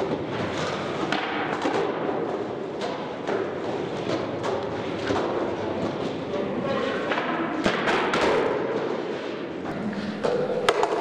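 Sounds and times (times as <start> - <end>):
skateboard clacks and thuds: 0.0 - 11.0
skateboard wheels rolling on concrete: 0.0 - 11.0.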